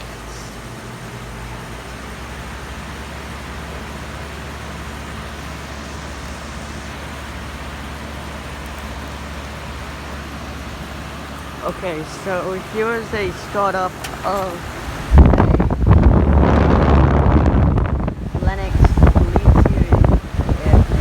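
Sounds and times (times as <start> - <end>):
heat pump hum: 0.0 - 21.0.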